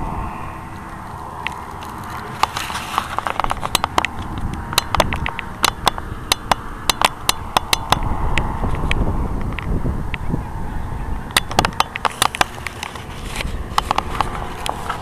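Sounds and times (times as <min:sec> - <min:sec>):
distant paramotor engine drone: 0:00.0 - 0:15.0
wind rumble on microphone: 0:00.0 - 0:15.0
sharp crackling clicks: 0:00.7 - 0:10.3, 0:11.3 - 0:15.0.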